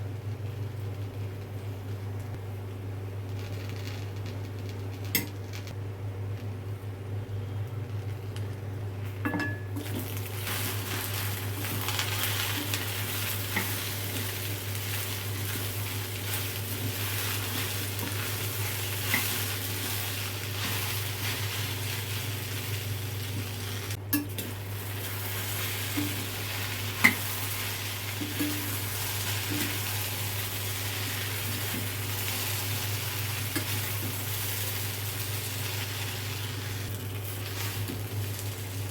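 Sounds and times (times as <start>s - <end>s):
steady low hum: 0.0s - 38.9s
okra sizzling in a pan: 3.1s - 5.8s, 9.4s - 38.9s.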